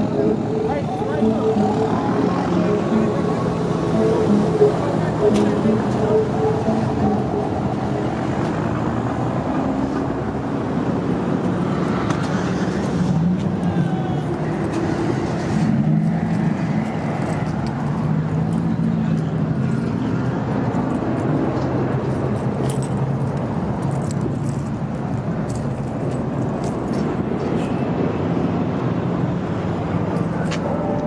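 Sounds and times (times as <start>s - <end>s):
road noise: 0.0s - 31.0s
vehicle engines running: 0.0s - 31.0s.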